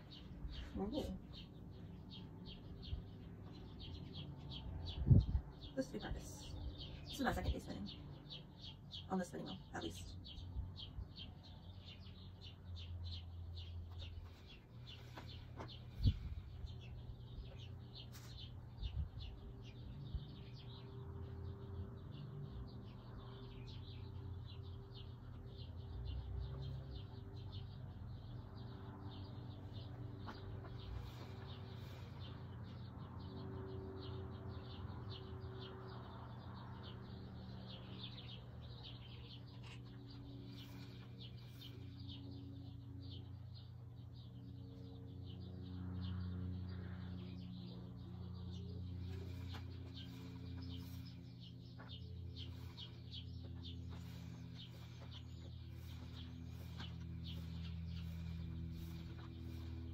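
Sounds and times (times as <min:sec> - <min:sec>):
low hum: 0:00.0 - 0:59.9
small birds chirping: 0:00.0 - 0:59.9.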